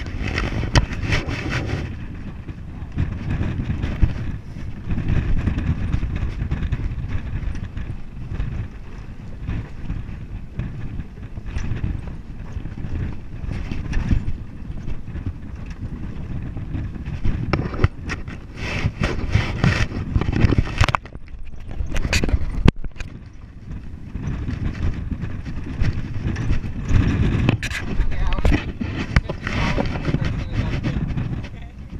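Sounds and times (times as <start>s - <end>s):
clattering knocks and rattles: 0.0s - 31.9s
truck rumbling on rough track: 0.0s - 31.9s
wind buffeting: 0.0s - 31.9s.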